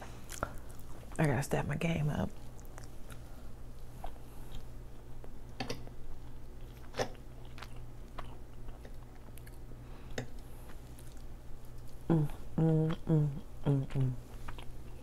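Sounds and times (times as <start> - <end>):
chewing food: 0.1 - 1.3, 2.3 - 15.0.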